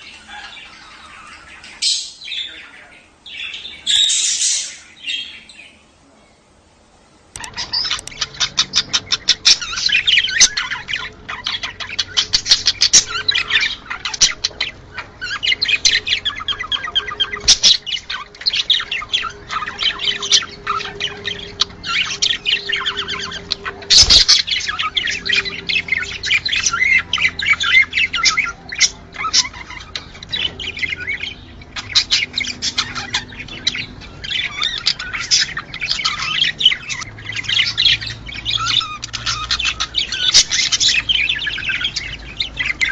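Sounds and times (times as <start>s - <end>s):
budgerigars chattering: 0.0s - 5.9s, 7.4s - 42.9s.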